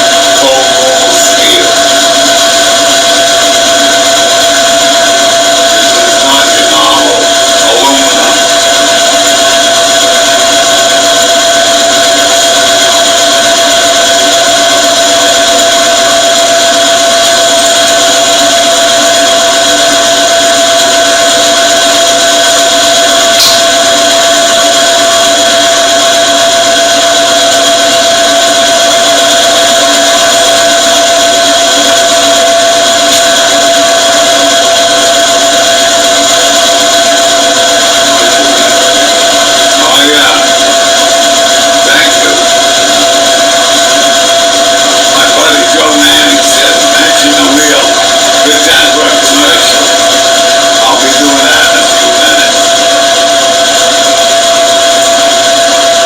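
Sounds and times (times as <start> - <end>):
power drill boring through metal: 0.0 - 56.0.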